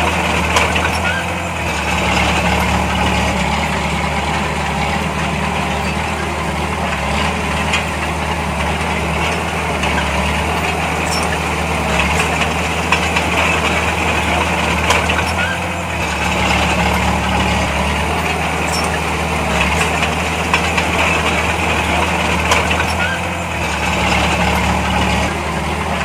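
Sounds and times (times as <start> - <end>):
heavy diesel engine idling: 0.0 - 26.0.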